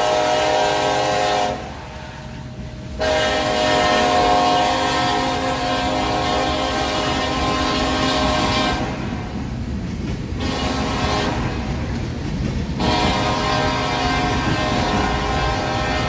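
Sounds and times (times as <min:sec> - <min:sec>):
locomotive air horn: 0:00.0 - 0:09.2, 0:10.4 - 0:11.7, 0:12.8 - 0:16.0
passing train rumble: 0:00.0 - 0:16.0.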